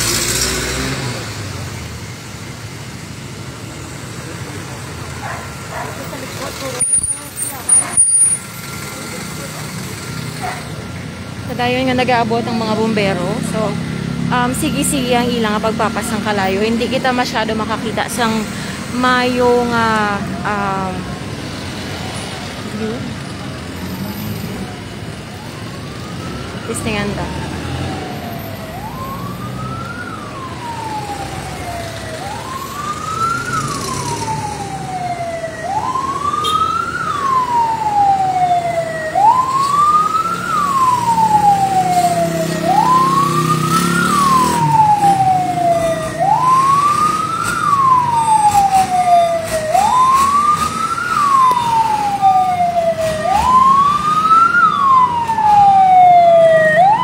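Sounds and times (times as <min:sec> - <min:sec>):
fire truck siren wailing: 0:00.0 - 0:57.0
truck engine rumbling: 0:00.0 - 0:57.0.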